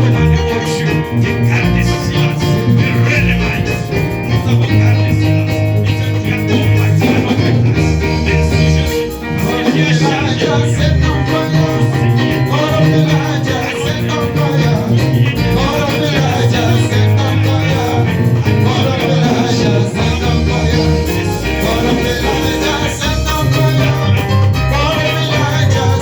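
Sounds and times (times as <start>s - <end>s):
latin dance music with singing: 0.0s - 26.0s
prominent bass line: 0.0s - 26.0s.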